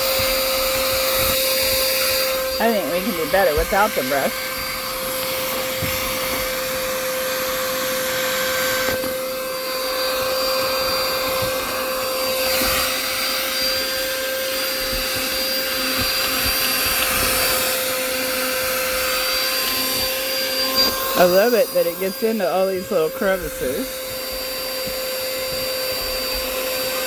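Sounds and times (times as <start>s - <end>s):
car vacuum motor whine: 0.0s - 27.0s.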